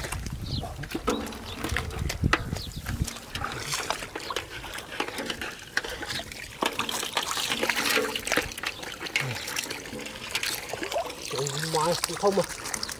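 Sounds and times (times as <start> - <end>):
water splashing and trickling: 0.0 - 12.9
water draining through basket mesh: 0.9 - 12.9.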